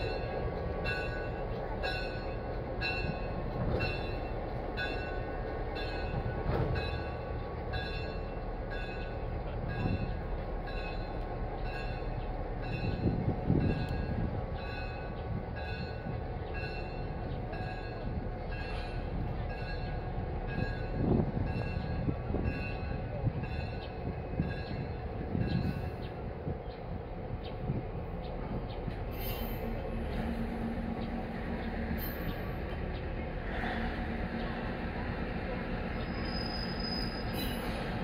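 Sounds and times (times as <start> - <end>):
locomotive low rumble: 0.0 - 38.0.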